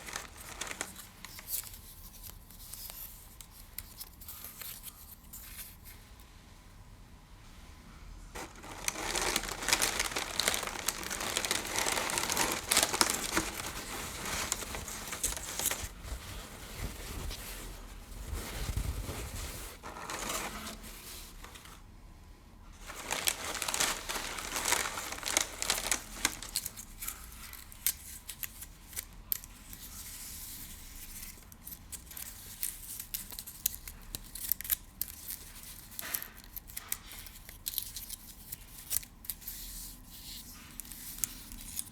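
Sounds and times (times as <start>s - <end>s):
crinkly material crinkling: 0.0s - 6.1s, 8.4s - 21.8s, 22.8s - 41.9s.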